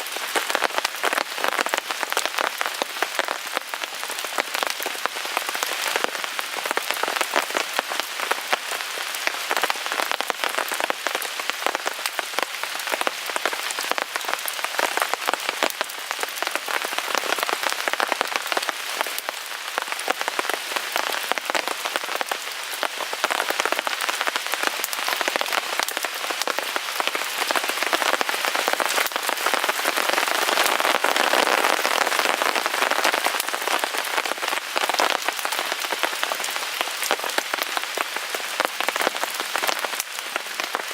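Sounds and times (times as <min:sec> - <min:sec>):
rain pattering on a tarp: 0:00.0 - 0:40.9.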